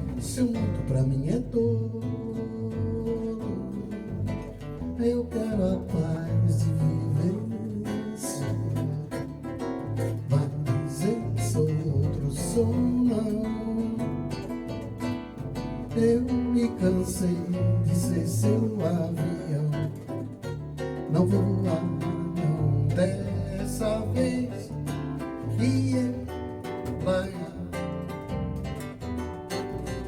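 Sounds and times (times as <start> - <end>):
acoustic guitars playing: 0.0 - 30.0
plucked bass line: 0.0 - 30.0.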